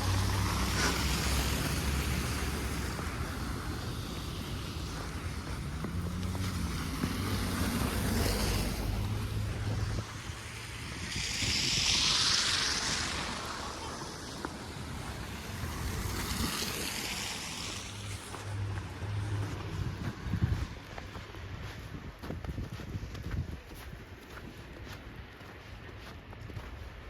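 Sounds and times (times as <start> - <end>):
wind gusts buffeting microphone: 0.0 - 25.4.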